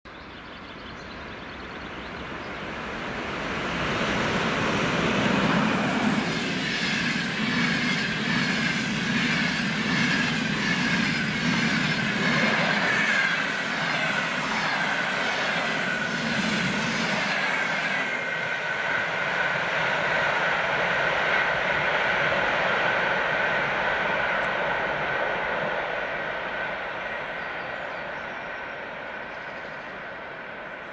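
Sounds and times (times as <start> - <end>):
high train whine: 0.3 - 30.9.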